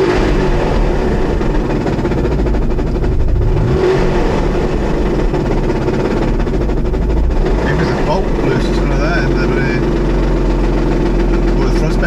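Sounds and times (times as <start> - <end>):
rotary engine revving: 0.0 - 12.0.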